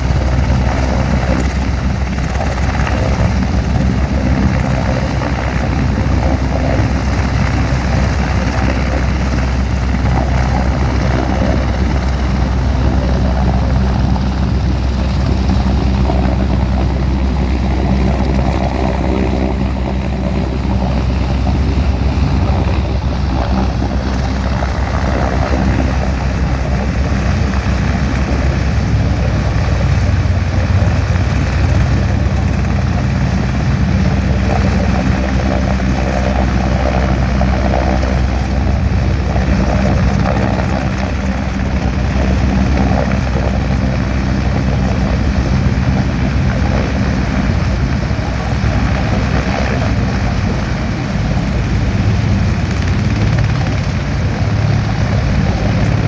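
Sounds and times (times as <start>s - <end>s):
helicopter hovering: 0.0s - 56.0s.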